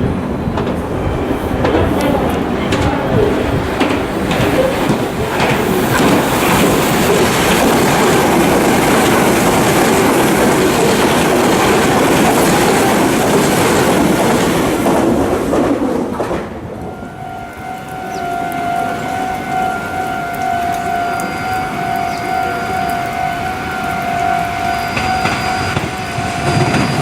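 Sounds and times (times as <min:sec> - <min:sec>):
clickety-clack over rail joints: 0:00.0 - 0:27.0
train wheels rushing on rail: 0:00.0 - 0:27.0.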